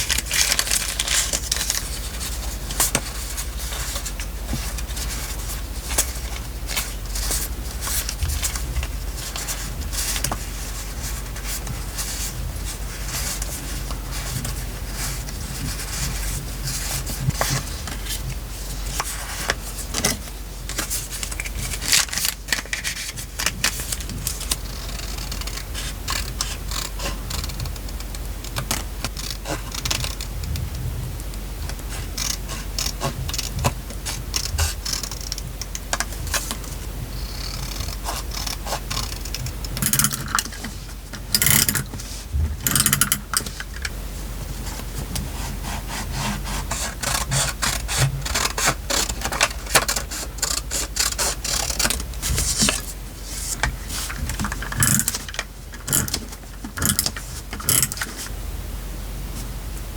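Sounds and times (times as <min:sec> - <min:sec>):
paper rustling and scraping: 0:00.0 - 0:27.7, 0:31.6 - 0:58.3.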